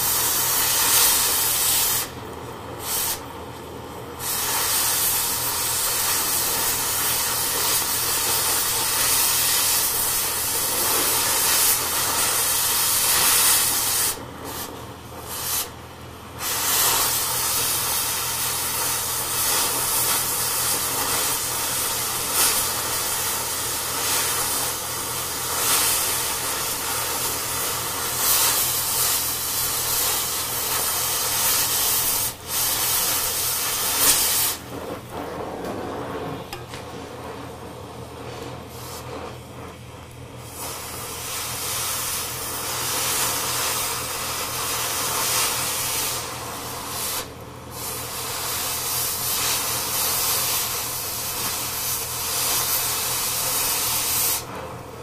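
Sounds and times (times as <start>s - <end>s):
cutting torch hissing: 0.0s - 55.0s.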